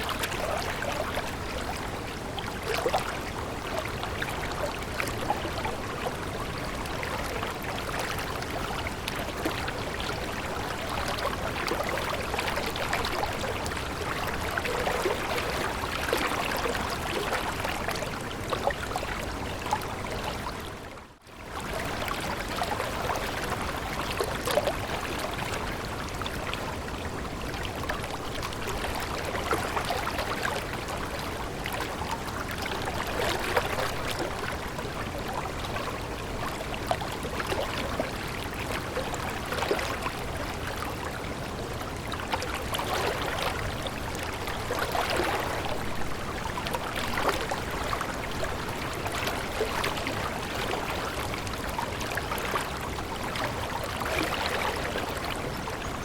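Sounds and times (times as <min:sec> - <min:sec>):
small water splashes: 0:00.0 - 0:56.0
stream babbling and trickling: 0:00.0 - 0:56.0.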